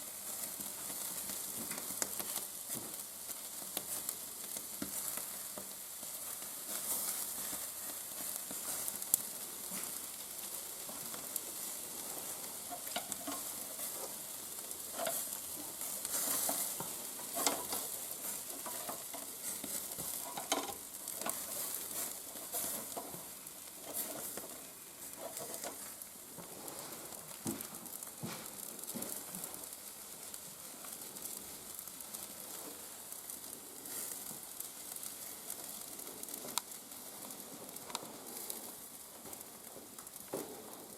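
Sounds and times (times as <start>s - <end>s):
fire crackling and popping: 0.0s - 40.9s
meat sizzling over fire: 0.0s - 40.9s.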